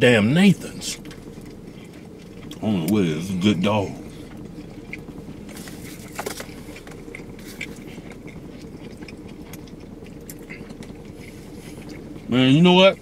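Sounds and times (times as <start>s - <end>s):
car cabin hum: 0.0s - 13.0s
people chewing: 0.5s - 13.0s.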